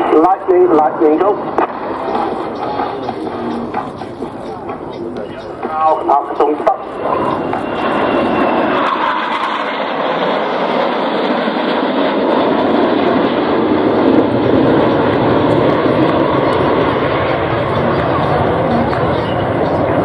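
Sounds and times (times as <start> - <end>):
jet fighters flying past: 0.0 - 20.0.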